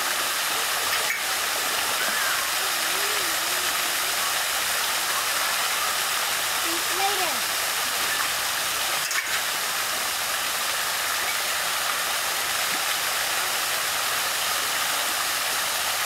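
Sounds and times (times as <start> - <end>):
fountain jets splashing: 0.0 - 16.0.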